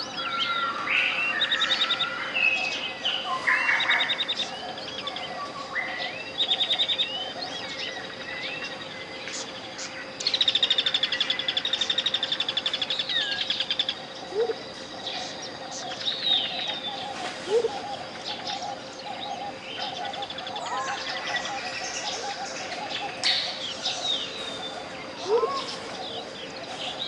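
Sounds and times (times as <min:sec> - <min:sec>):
gliding whistled bird calls: 0:00.0 - 0:27.0
low pulsing bird call: 0:00.0 - 0:27.0.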